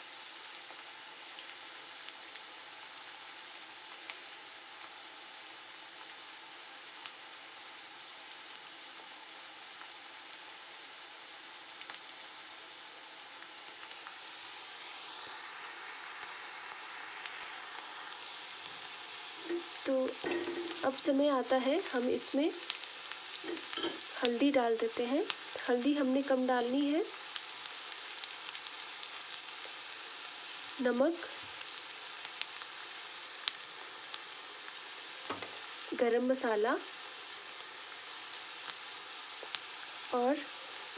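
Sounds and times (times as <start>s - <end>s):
onions sizzling in hot oil: 0.0s - 40.9s.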